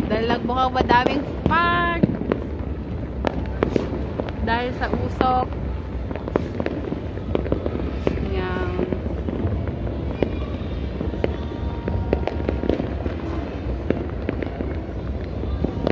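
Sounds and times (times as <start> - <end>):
firecrackers popping and cracking: 0.0 - 15.9
loud firework bangs: 0.0 - 15.9.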